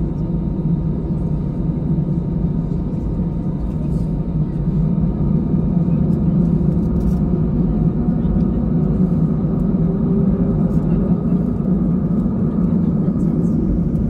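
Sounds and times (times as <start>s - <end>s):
jet engines humming in cabin: 0.0s - 14.0s.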